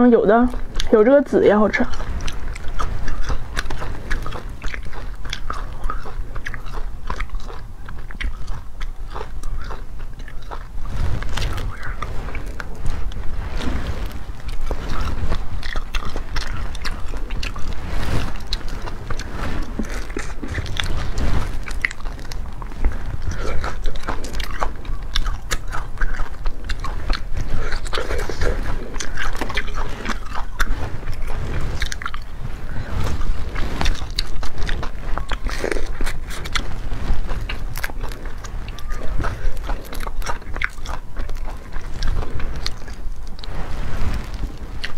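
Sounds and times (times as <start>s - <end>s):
chewing: 0.0s - 44.9s.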